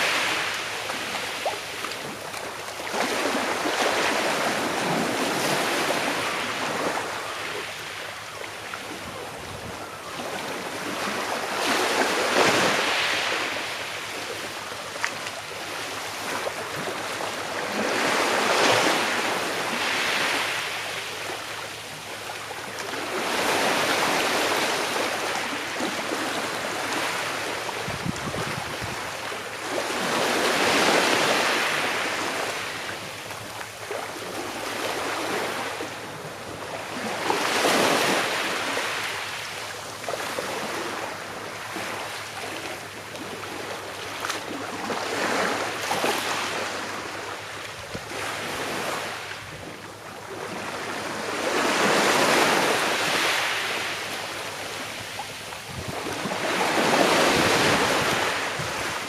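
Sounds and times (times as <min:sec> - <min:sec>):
small waves washing onto shore: 0:00.0 - 0:59.0.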